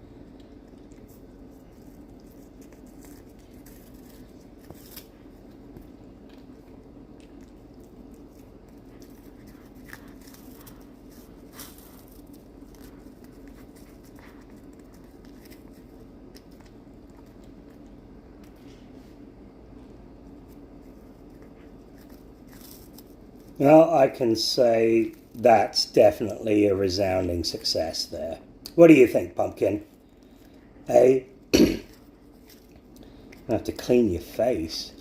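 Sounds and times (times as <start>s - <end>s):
cat licking and chewing: 0.0s - 26.5s, 29.1s - 34.4s
steady low hum: 0.0s - 35.0s.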